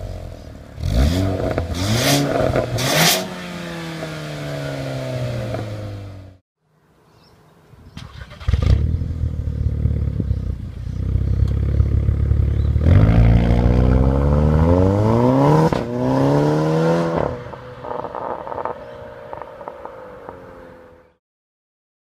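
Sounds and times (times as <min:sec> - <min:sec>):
car engine idling and revving: 0:00.0 - 0:06.4, 0:08.4 - 0:21.1.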